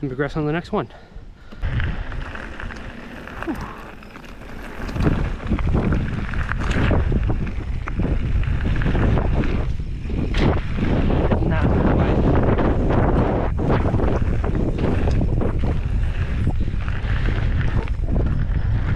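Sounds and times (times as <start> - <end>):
wind buffeting microphone: 1.2 - 18.9.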